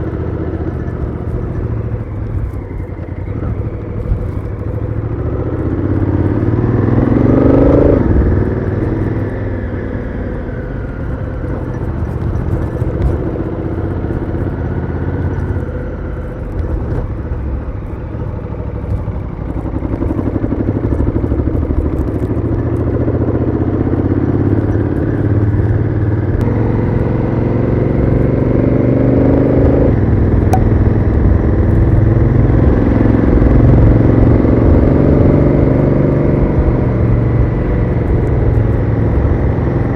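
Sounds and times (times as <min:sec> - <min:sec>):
motorcycle engine under way: 0:00.0 - 0:39.9.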